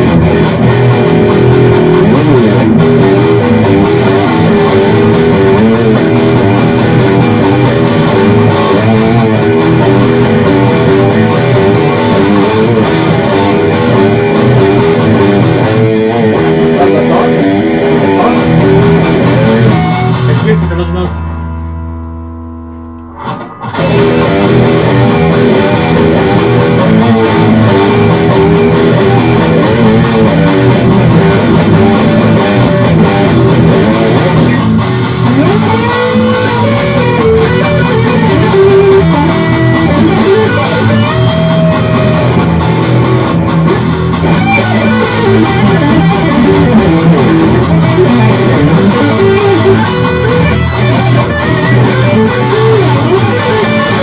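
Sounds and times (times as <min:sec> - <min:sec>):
electric guitar playing hard rock: 0:00.0 - 0:54.0.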